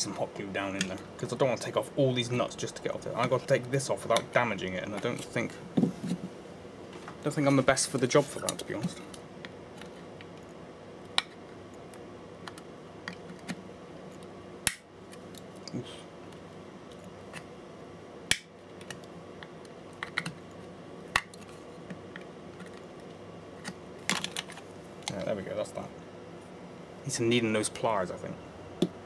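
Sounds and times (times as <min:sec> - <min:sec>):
steady low background hum: 0:00.0 - 0:29.0.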